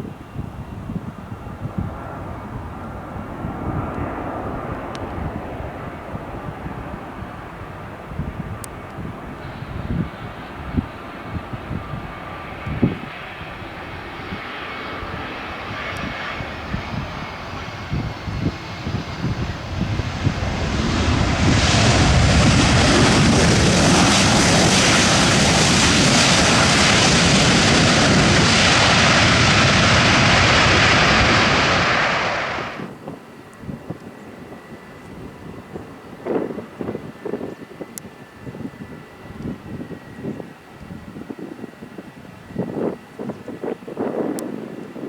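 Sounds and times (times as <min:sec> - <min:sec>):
jet engine roar: 0:00.0 - 0:45.0
jet engine whine: 0:00.0 - 0:45.0.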